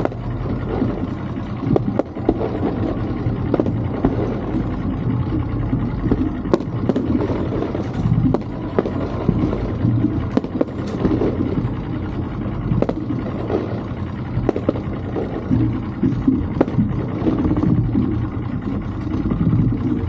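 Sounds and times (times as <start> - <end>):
distant fireworks bursts: 0.0 - 20.0
outboard motor idling: 0.0 - 20.0.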